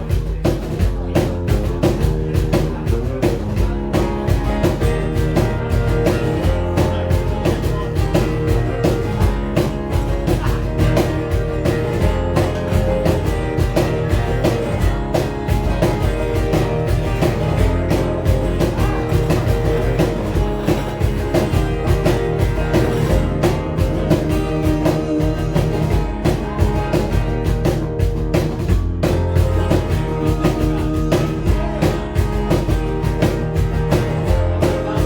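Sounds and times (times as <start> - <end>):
drum kit beat: 0.0 - 35.0
live rock band playing: 0.0 - 35.0.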